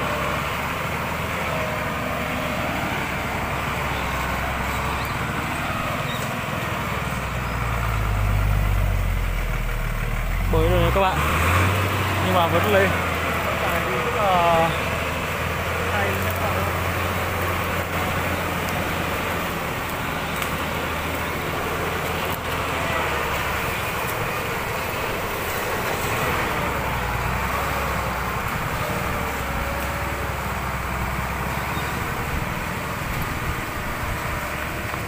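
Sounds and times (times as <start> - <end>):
truck engine under load: 0.0 - 35.0.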